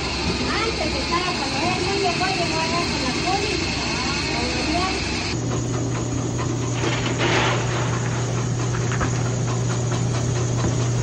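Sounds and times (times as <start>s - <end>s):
electric mill motor hum: 0.0s - 11.0s.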